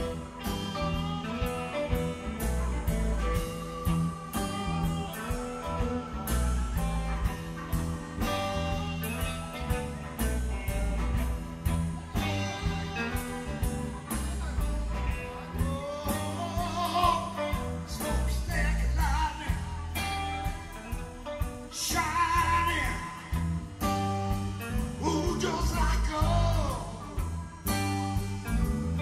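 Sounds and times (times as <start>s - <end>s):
blues-rock band playing: 0.0s - 29.0s
electric guitar lead line: 0.0s - 29.0s.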